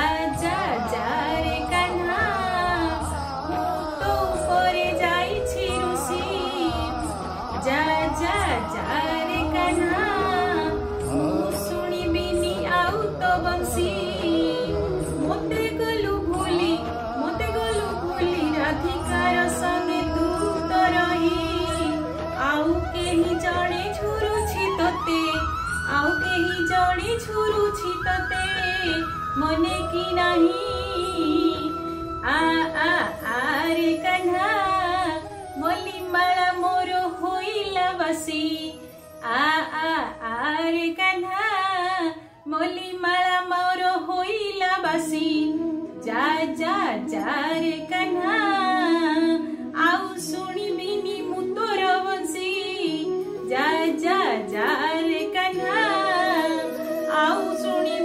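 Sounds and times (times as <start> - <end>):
devotional instrumental melody: 0.0 - 43.2, 44.1 - 58.0
woman singing: 0.0 - 58.0.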